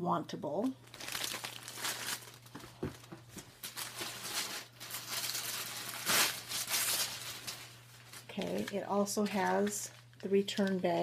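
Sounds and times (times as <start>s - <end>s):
tissue paper rustling: 0.9s - 10.8s.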